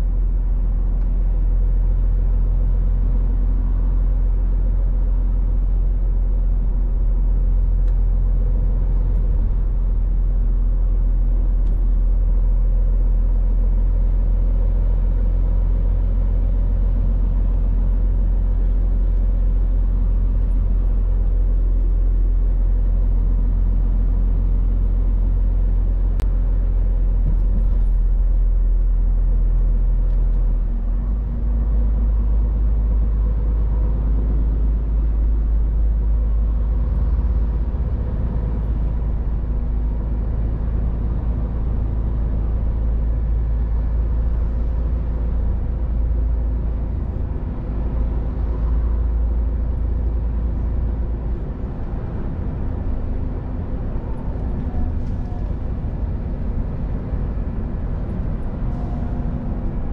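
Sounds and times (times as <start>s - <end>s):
truck engine and tyre rumble: 0.0s - 59.9s.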